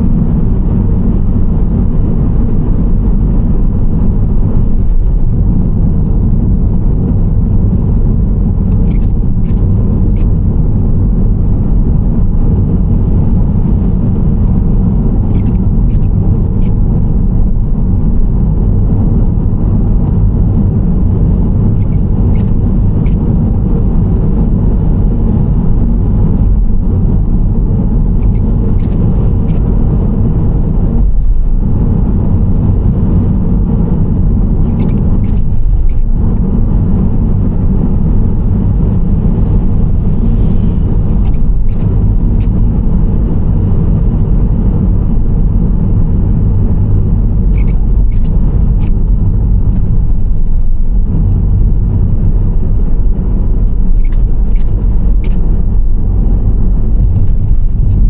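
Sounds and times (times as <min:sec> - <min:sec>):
vehicle road and engine rumble: 0:00.0 - 0:58.0.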